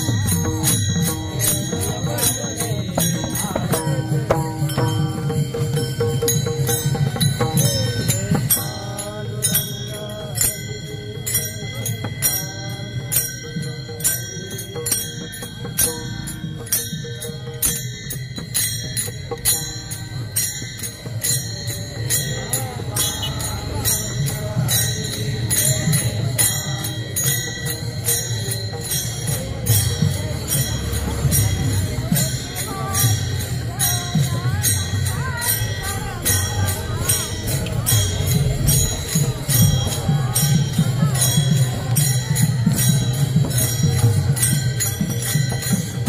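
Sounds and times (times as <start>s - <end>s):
voices chanting: 0.0s - 45.4s
hand cymbals ringing: 0.0s - 46.0s.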